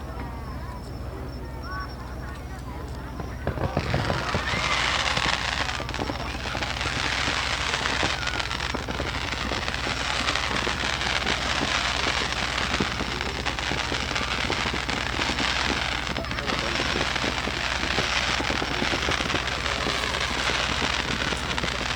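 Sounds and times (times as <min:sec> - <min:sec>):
fireworks crackling and popping: 0:00.0 - 0:21.9.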